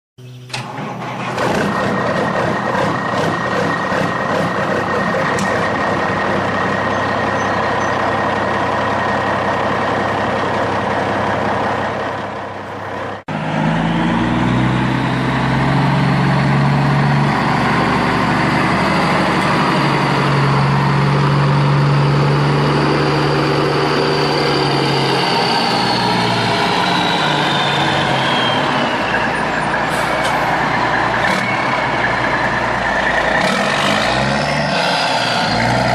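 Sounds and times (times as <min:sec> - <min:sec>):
truck engine running: 0:00.2 - 0:35.9.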